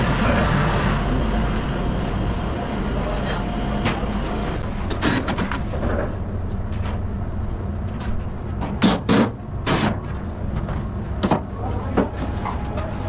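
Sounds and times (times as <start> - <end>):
engine room machinery hum: 0.0 - 13.0.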